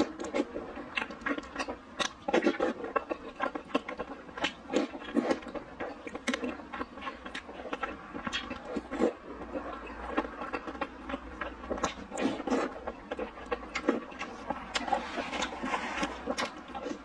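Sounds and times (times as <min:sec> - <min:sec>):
wet chewing and mouth smacks: 0:00.0 - 0:17.0.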